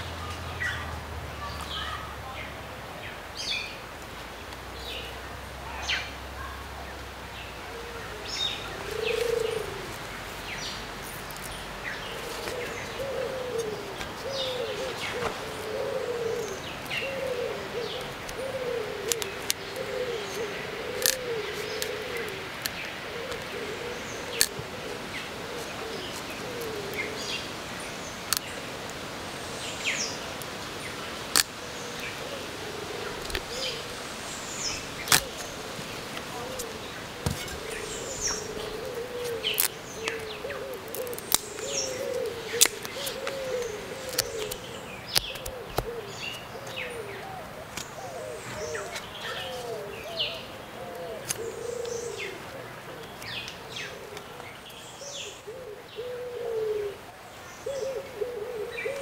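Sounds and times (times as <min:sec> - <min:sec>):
bird cooing: 0:07.5 - 0:11.0, 0:11.6 - 0:28.8, 0:29.5 - 0:59.0.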